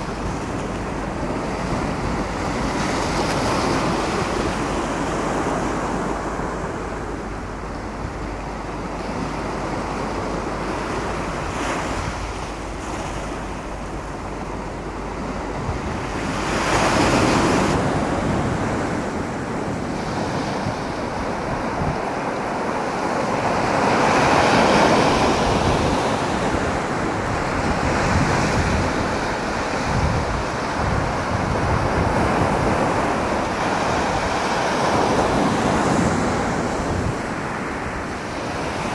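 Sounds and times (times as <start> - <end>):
waves breaking on a beach: 0.0 - 38.9
wind rumble on microphone: 0.0 - 38.9.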